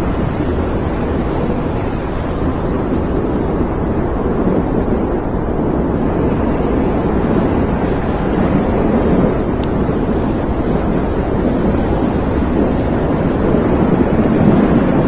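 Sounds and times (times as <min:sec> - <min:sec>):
blast wind: 0:00.0 - 0:15.0
deep explosion rumbling: 0:00.0 - 0:15.0.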